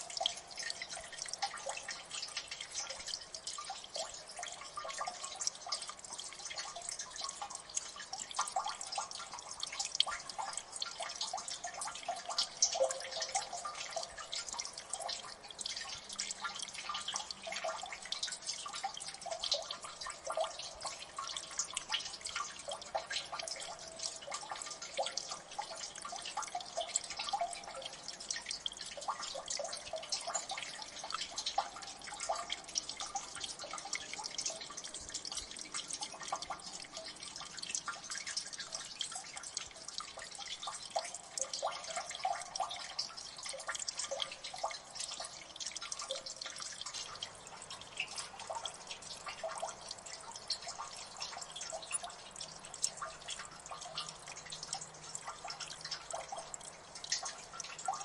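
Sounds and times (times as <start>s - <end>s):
water dripping: 0.0s - 58.0s.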